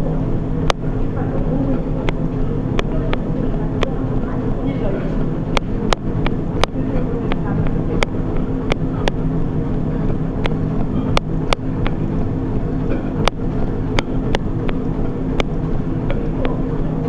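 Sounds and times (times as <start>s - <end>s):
treadmill belt and motor hum: 0.0s - 17.0s.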